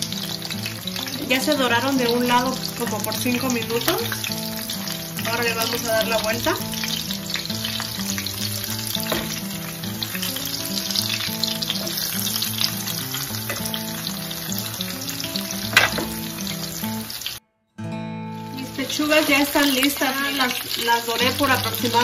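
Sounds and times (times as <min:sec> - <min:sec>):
chicken frying in hot oil: 0:00.0 - 0:17.4, 0:18.7 - 0:22.0.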